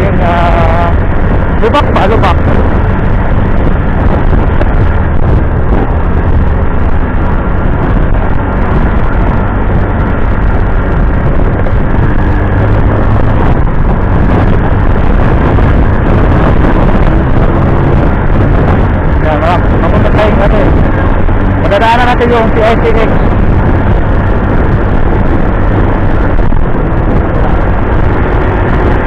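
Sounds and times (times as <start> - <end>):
road noise: 0.0 - 29.0
scooter engine drone: 0.0 - 29.0
wind buffeting microphone: 0.0 - 29.0.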